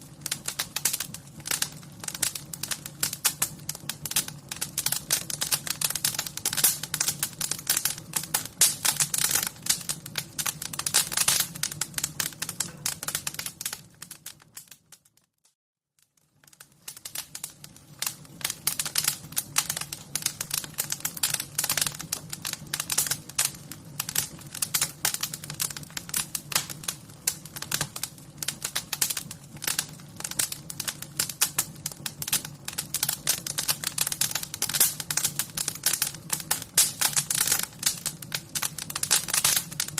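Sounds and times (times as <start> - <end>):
wood fire crackling: 0.0 - 15.2, 16.0 - 39.9.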